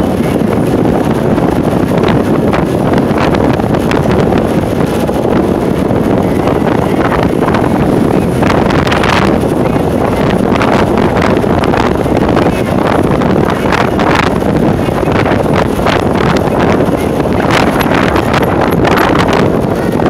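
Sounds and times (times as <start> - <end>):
loud wind noise on microphone: 0.0 - 20.0.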